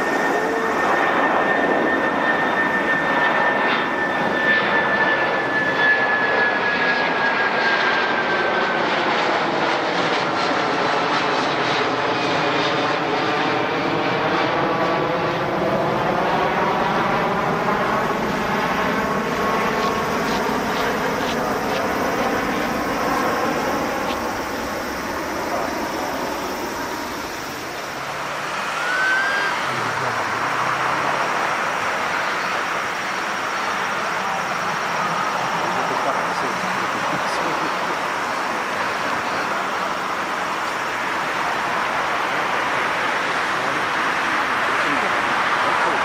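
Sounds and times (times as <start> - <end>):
high fan whine: 0.0 - 46.0
jet engines at takeoff power: 0.0 - 46.0.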